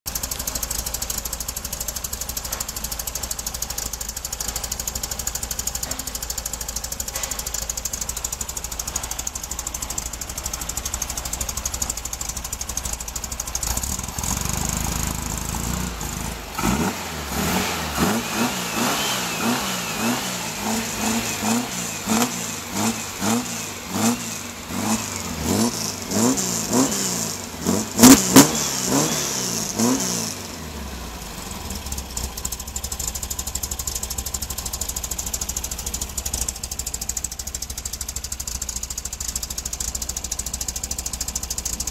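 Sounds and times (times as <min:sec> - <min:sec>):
engine idling and revving: 0:00.1 - 0:41.9.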